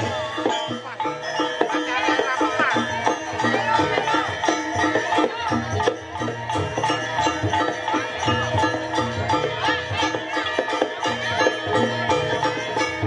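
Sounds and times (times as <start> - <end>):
metal chime melody: 0.0 - 13.0
steady repeating drum beat: 0.0 - 13.0.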